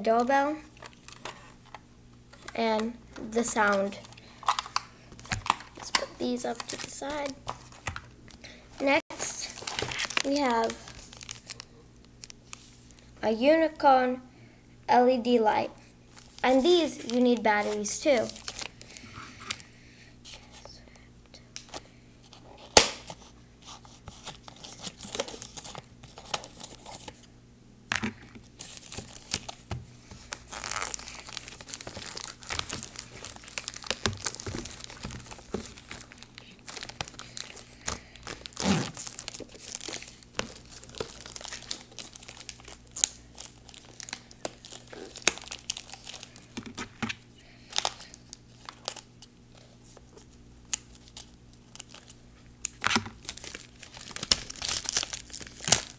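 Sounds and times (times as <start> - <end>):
plastic packaging crinkling: 0.7 - 13.1, 16.1 - 19.7, 21.7 - 27.3, 28.0 - 55.9.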